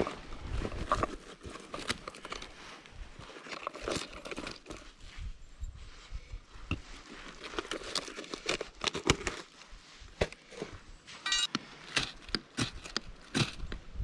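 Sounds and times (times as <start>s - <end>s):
dry leaves and twigs crunching: 0.0s - 13.7s.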